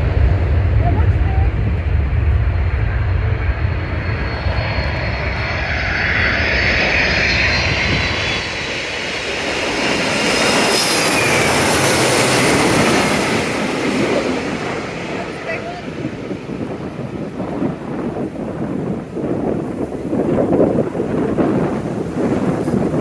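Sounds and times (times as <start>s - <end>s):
jet plane passing overhead: 0.0s - 23.0s.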